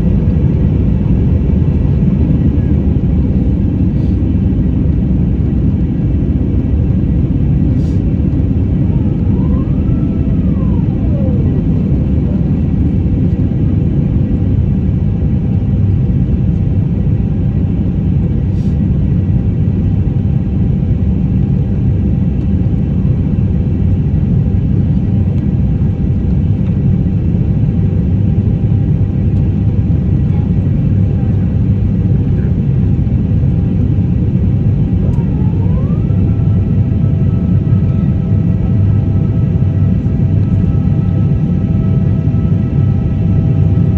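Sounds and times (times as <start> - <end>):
jet engine rumble in cabin: 0.0 - 43.9.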